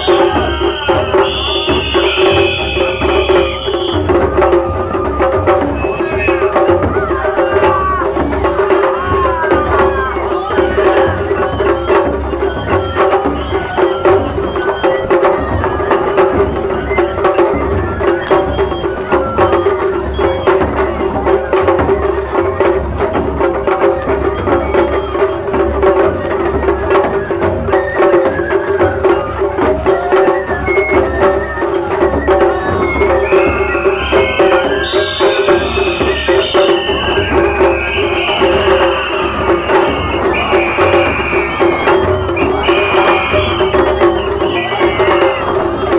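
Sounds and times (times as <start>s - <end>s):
sharp percussive strikes: 0.0s - 45.9s.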